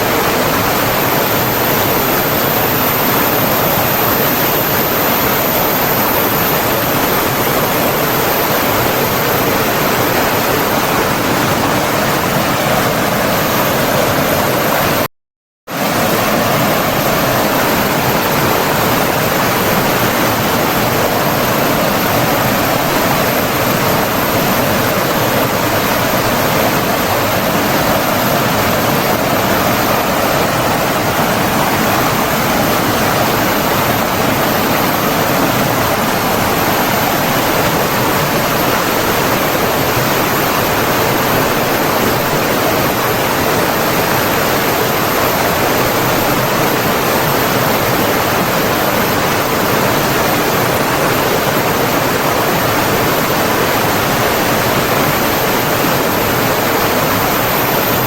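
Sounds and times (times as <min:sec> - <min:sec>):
water rushing: 0:00.0 - 0:15.1, 0:15.7 - 0:58.0.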